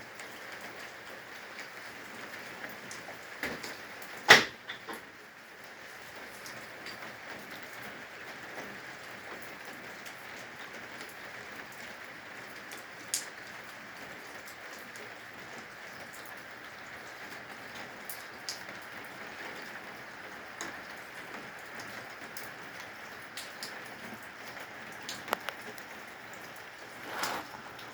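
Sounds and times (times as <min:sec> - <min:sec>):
rain hiss: 0:00.0 - 0:27.9.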